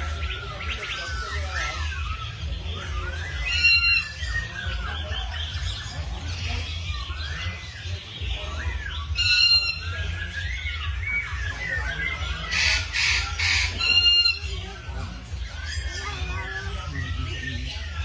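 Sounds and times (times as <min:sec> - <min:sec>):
harsh bird squawk: 0:00.0 - 0:18.0
many birds chirping: 0:00.0 - 0:18.0.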